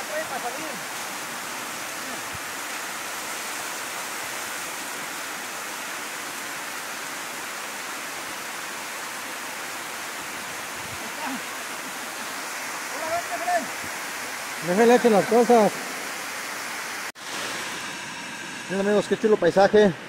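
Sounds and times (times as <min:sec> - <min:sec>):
water rushing down a spillway: 0:00.0 - 0:20.0.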